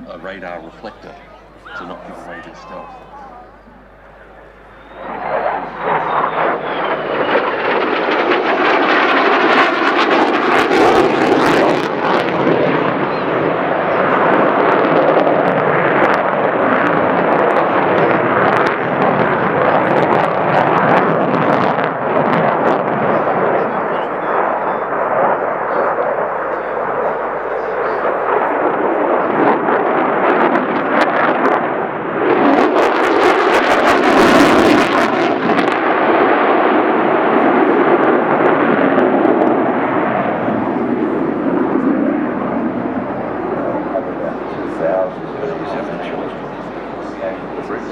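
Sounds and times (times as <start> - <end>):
jet engine crackling: 0.0 - 47.9
jet engine roar: 0.0 - 47.9.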